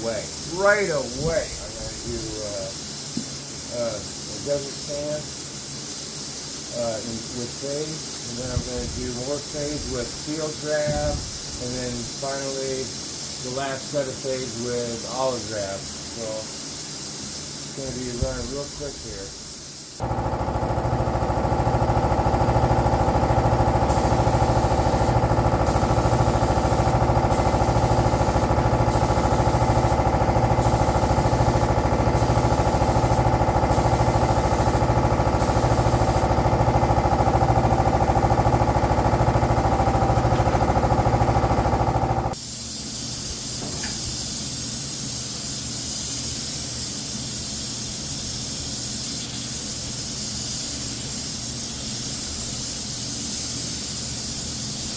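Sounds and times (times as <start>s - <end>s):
air compressor humming: 0.0s - 54.9s
spray gun air hissing: 0.0s - 54.9s.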